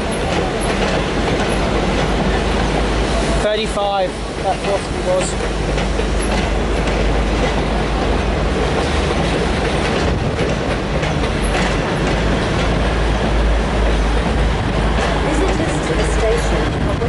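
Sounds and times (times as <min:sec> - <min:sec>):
train rumbling past: 0:00.0 - 0:17.0
wheels clicking over rail joints: 0:00.0 - 0:17.0.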